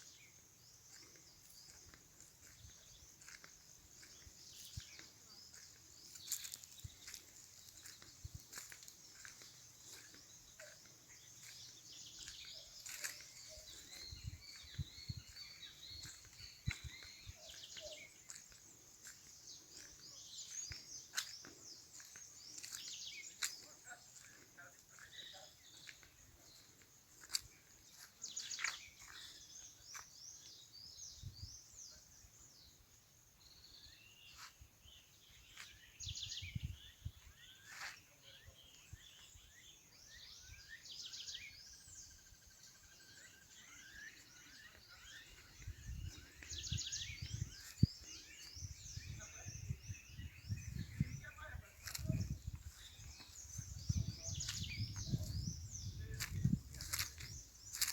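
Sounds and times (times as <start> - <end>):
birds chirping and trilling: 0.0 - 57.9.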